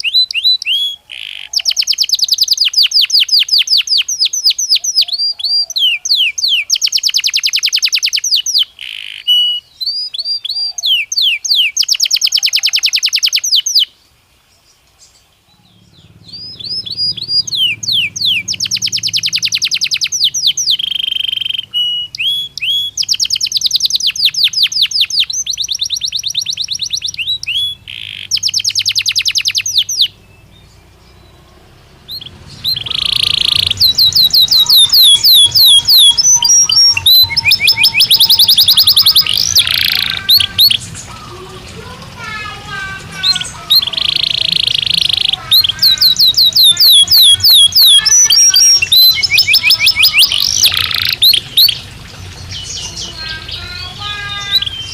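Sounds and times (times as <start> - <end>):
canary singing trills: 0.0 - 14.0, 15.0 - 54.9.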